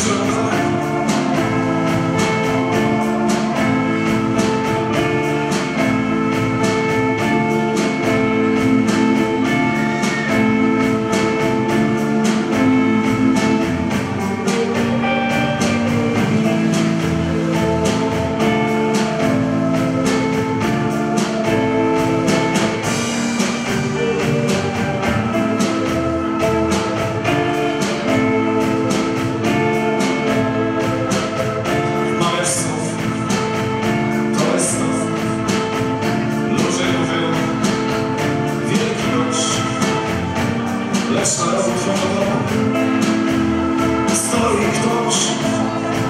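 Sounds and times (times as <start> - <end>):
bass: 0.0 - 46.0
drum kit beat: 0.0 - 46.0
electric guitar: 0.0 - 46.0.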